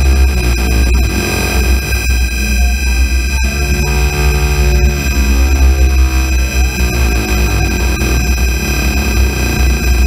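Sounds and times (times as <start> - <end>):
loud low drone: 0.0 - 10.0
steady electrical buzz: 0.0 - 10.0
wavering theremin tones: 0.0 - 10.0.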